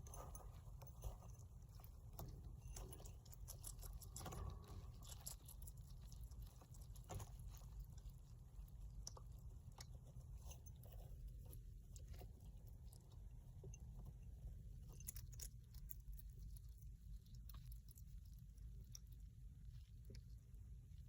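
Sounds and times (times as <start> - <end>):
hedgehog chewing crunchily: 0.0 - 13.6, 14.8 - 20.8.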